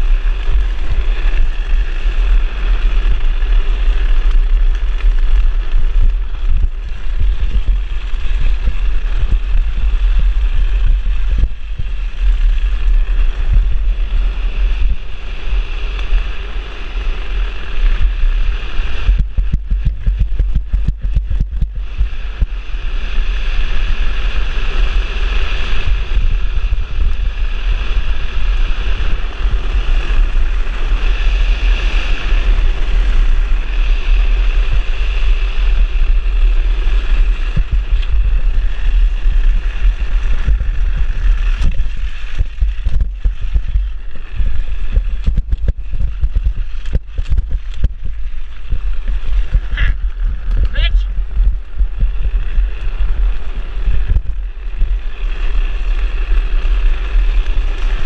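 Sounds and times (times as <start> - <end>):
wheels hissing on asphalt: 0.0 - 58.0
wind buffeting microphone: 0.0 - 58.0.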